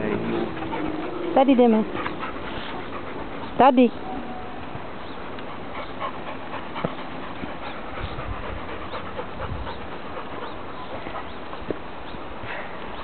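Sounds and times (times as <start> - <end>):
paws on dirt path: 0.0 - 4.0, 5.0 - 13.0
dogs panting: 0.0 - 4.1, 4.8 - 13.0.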